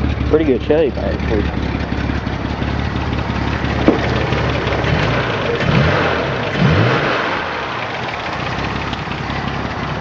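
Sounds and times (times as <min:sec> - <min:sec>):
loud truck engine idling: 0:00.0 - 0:10.0.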